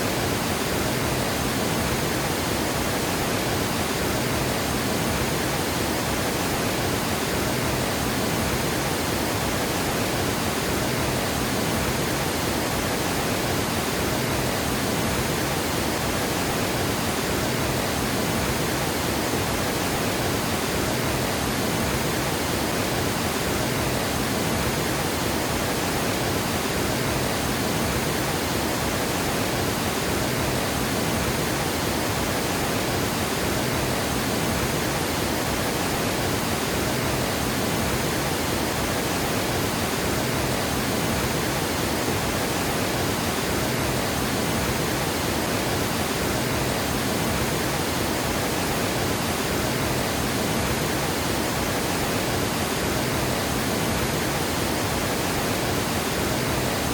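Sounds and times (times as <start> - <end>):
water rushing over a dam: 0.0 - 56.9.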